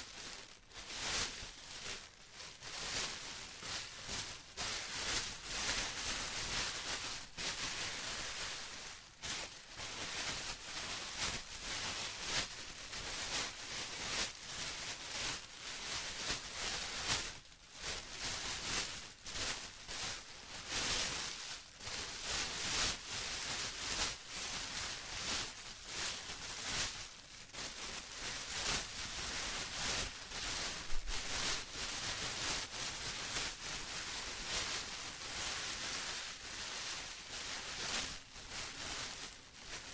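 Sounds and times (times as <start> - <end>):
plastic crinkling: 0.0 - 39.9.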